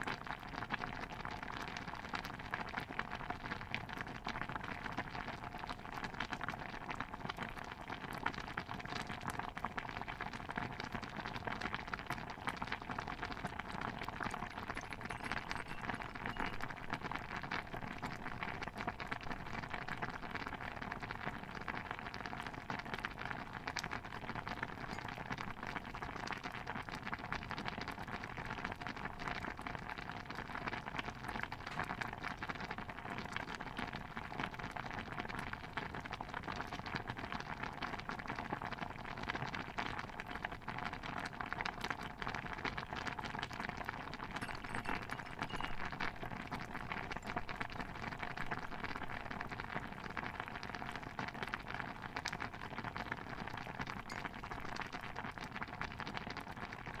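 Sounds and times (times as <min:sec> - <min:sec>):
stew bubbling in a pot: 0:00.0 - 0:57.0.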